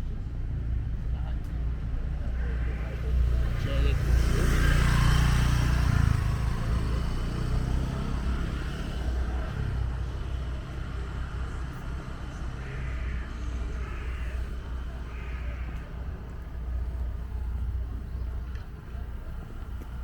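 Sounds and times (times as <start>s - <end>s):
street noise: 0.0s - 20.0s
vehicle engine rumble: 0.0s - 20.0s.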